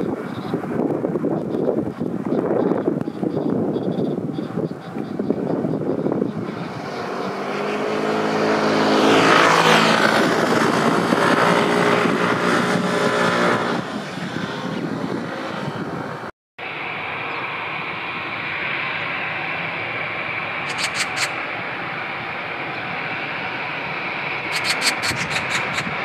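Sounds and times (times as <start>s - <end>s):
steady rushing noise: 0.0s - 26.0s
turboprop engines droning: 0.0s - 26.0s.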